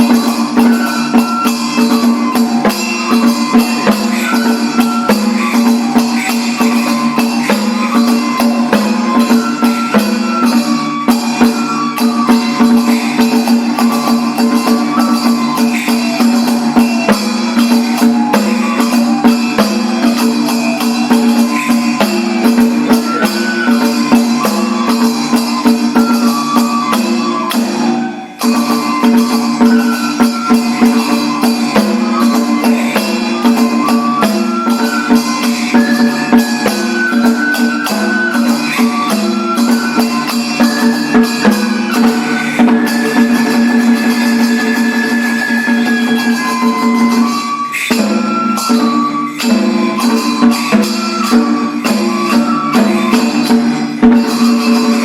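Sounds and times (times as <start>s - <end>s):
small hand cymbals jangling: 0.0s - 55.0s
steady drum beat: 0.0s - 55.0s.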